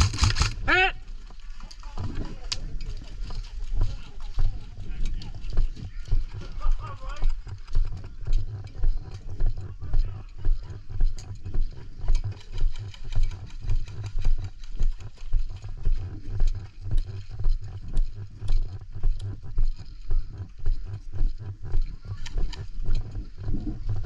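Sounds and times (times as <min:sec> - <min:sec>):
gear rattling: 0:01.2 - 0:24.0.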